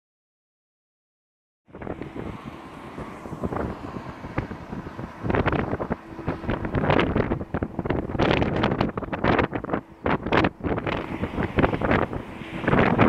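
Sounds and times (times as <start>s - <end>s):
wind buffeting microphone: 1.7s - 13.0s.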